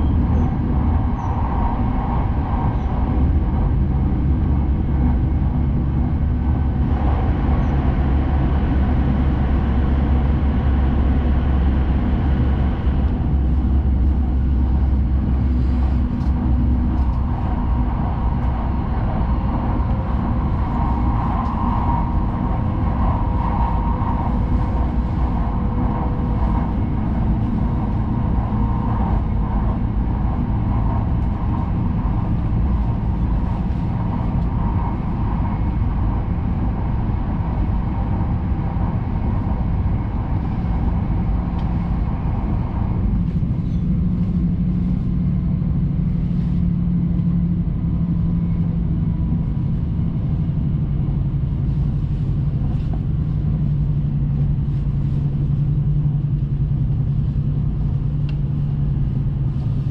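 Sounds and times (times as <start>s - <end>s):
low hum sinking in pitch: 0.0s - 59.9s
train cabin rumble: 0.0s - 59.9s.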